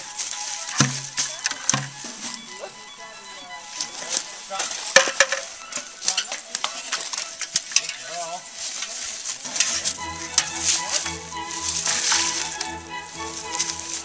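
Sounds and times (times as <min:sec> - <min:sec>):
faint voices: 0:00.0 - 0:14.0
music: 0:00.0 - 0:14.0.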